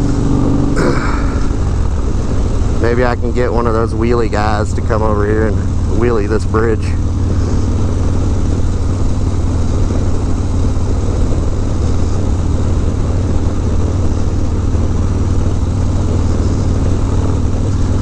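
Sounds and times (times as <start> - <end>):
motorcycle engine running: 0.0 - 18.0
wind noise: 0.0 - 18.0.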